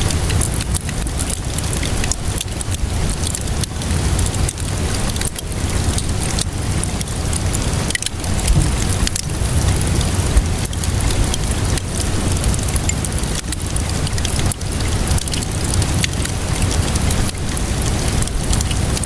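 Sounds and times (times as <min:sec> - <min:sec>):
fire crackling: 0:00.0 - 0:19.0
steady rainfall hiss: 0:00.0 - 0:19.0.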